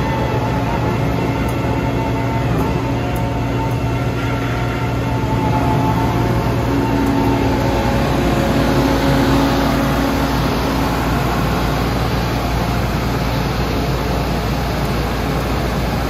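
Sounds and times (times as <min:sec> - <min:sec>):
heavy diesel machinery rumble: 0:00.0 - 0:16.0
steady hum: 0:00.0 - 0:16.0.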